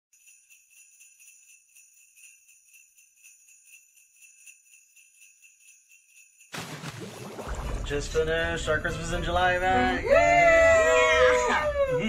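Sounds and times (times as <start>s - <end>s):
jingle bells shaken: 0.2s - 12.0s.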